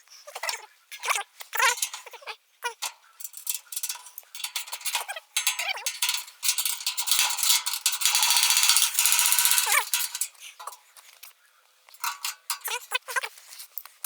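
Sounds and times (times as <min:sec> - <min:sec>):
metallic clinking and rattling: 0:01.0 - 0:10.9, 0:11.9 - 0:14.0.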